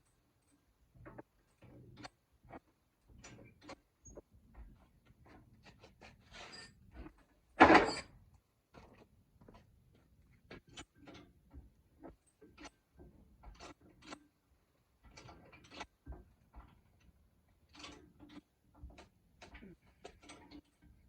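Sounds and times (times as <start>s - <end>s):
faint irregular clicks and knocks: 0.0s - 21.0s.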